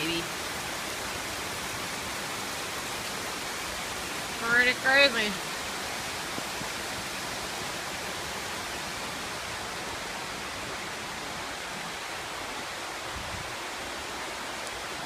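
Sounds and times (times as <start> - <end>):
heavy rain downpour: 0.0 - 15.0
runoff water rushing: 0.0 - 15.0.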